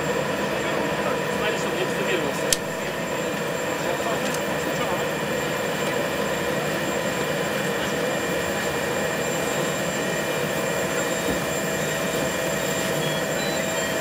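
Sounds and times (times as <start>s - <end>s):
aircraft cabin drone: 0.0s - 14.0s
thin high whine: 0.0s - 14.0s.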